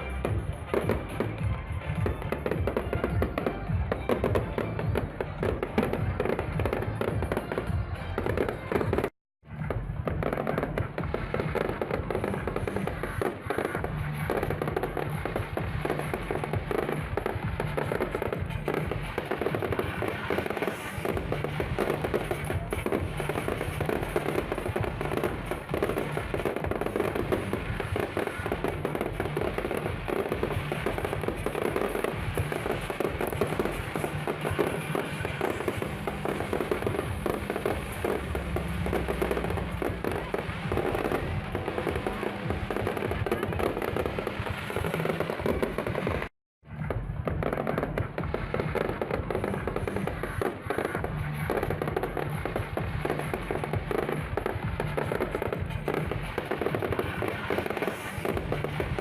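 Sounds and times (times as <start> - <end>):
fireworks banging and crackling: 0.0 - 59.0
music: 0.0 - 59.0.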